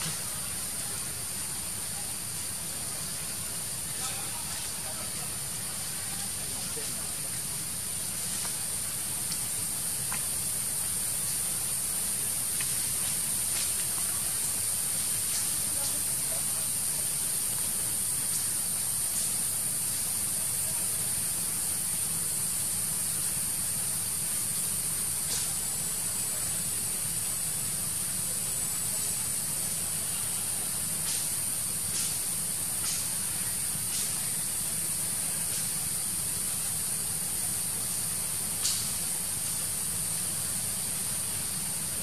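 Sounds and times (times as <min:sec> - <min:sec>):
forest insects droning: 0:00.0 - 0:42.0.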